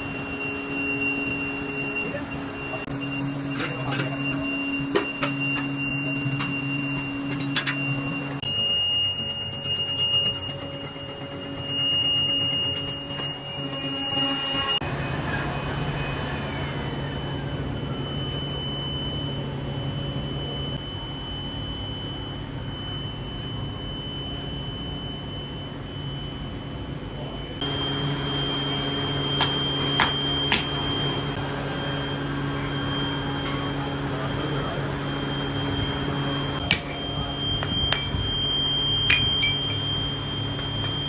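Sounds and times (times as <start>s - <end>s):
machinery humming and whining: 0.0s - 41.0s.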